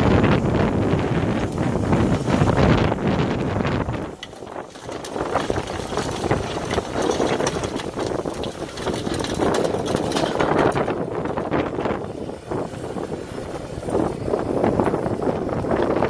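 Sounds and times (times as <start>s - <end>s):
diesel engine under load: 0.0s - 16.0s
snowblower churning: 0.0s - 16.0s.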